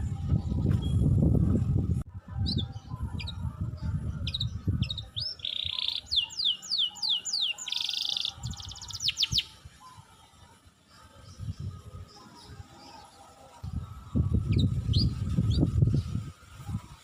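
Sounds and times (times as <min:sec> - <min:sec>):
songbird singing: 0:02.3 - 0:17.0.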